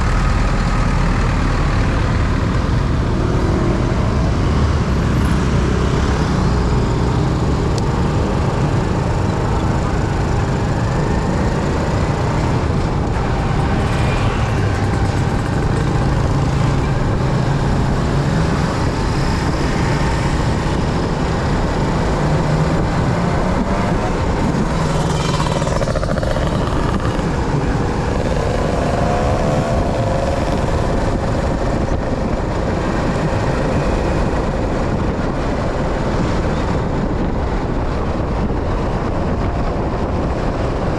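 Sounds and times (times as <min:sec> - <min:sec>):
other traffic: 0:00.0 - 0:40.9
road and wind noise: 0:00.0 - 0:40.9
vehicle engine running: 0:00.0 - 0:40.9.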